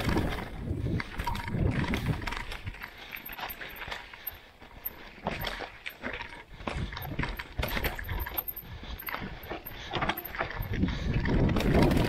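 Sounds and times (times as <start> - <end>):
bike clicks and rattles: 0.0 - 12.0
low rumble of tyres: 0.0 - 12.0.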